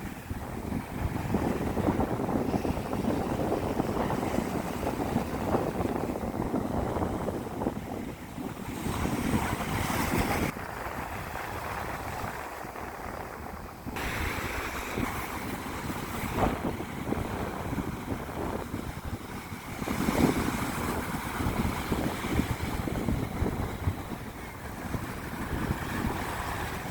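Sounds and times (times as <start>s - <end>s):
ocean surf breaking: 0.0s - 26.9s
wind buffeting microphone: 0.0s - 26.9s.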